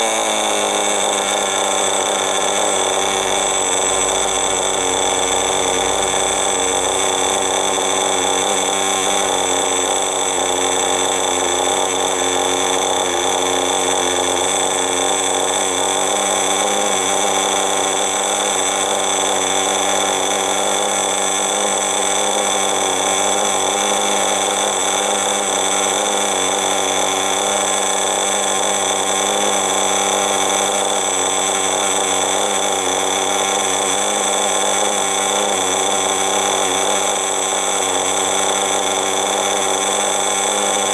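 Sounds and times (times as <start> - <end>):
two-stroke model engine idling: 0.0 - 40.9.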